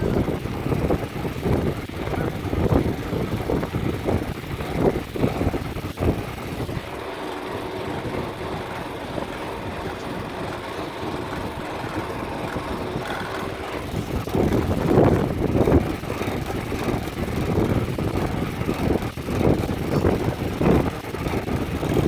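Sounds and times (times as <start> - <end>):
car engine rough rumbling: 0.0 - 22.0.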